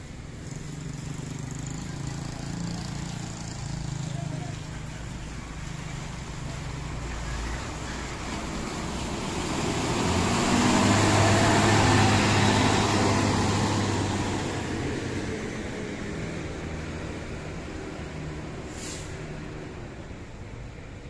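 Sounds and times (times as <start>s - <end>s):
tyres hissing on wet road: 0.0s - 20.4s
coach engine passing: 0.0s - 20.5s.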